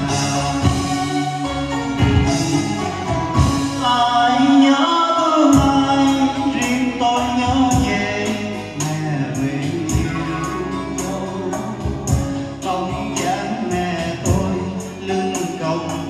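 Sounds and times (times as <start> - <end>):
band accompaniment with light percussion: 0.0 - 16.0
man singing into microphone: 0.0 - 16.0.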